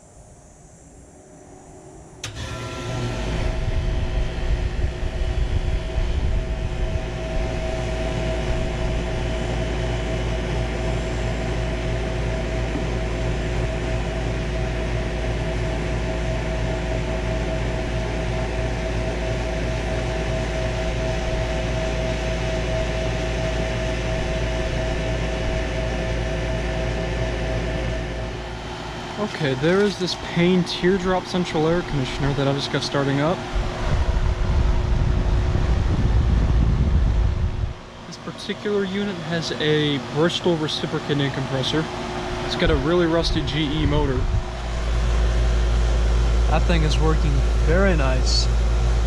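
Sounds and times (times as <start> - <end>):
air conditioner compressor running: 0.0 - 49.0.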